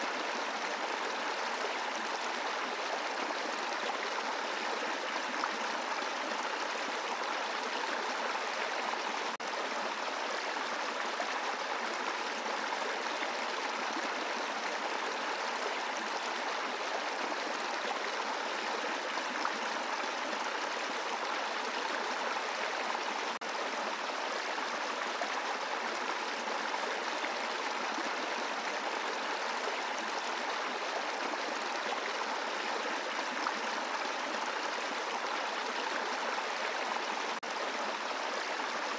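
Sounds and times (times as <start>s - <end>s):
brook flowing over rocks: 0.0s - 38.9s.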